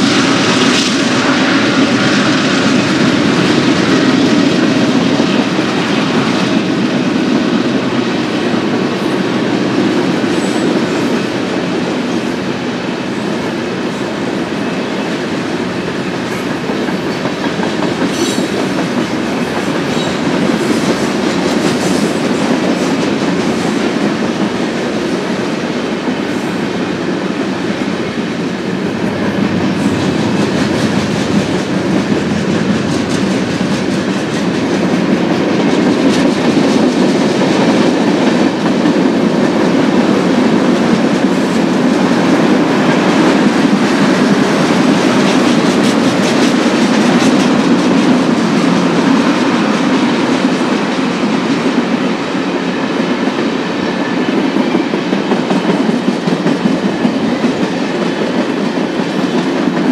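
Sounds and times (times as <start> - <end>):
train wheels clattering on rail joints: 0.0 - 59.9.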